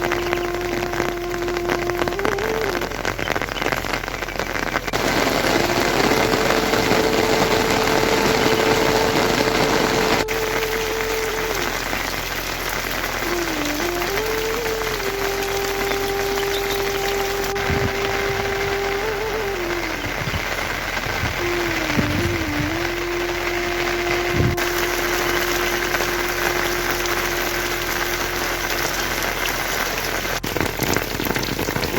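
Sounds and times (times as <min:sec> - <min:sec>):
soft melody of long notes: 0:00.0 - 0:04.2, 0:04.9 - 0:31.8
heavy rain pouring: 0:00.0 - 0:31.9.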